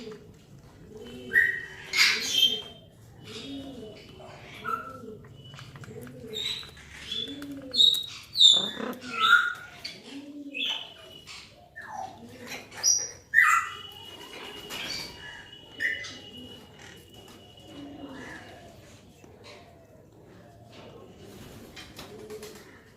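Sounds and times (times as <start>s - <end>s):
birds chirping and squawking: 0.0s - 22.9s
birds cooing: 0.0s - 22.9s.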